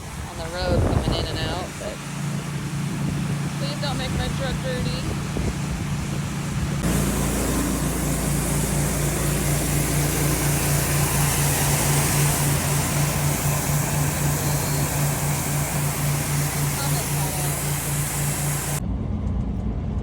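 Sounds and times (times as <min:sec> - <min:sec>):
truck engine running: 0:00.0 - 0:19.9
road noise: 0:00.0 - 0:20.0.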